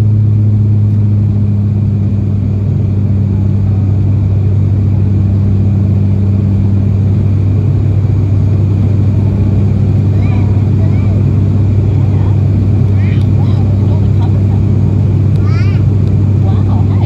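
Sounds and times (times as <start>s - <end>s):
turboprop cabin drone: 0.0s - 17.0s.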